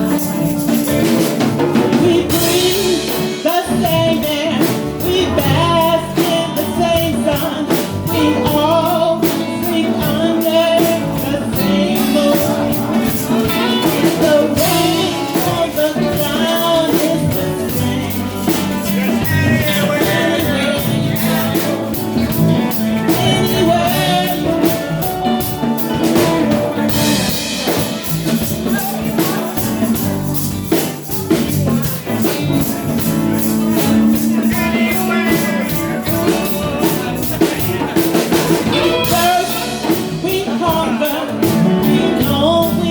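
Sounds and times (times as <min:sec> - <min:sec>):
band with drums and guitar: 0:00.0 - 0:42.9
person singing: 0:00.0 - 0:42.9.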